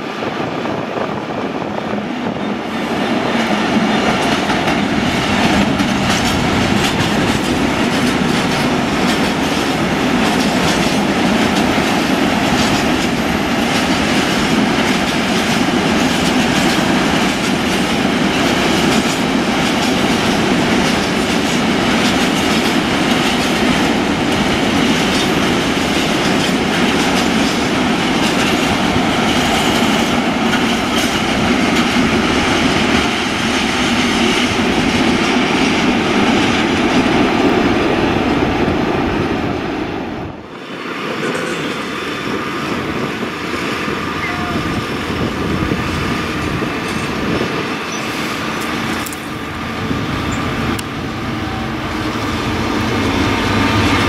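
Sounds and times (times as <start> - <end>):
train wheels clattering on rails: 0.0 - 38.9, 40.6 - 54.0.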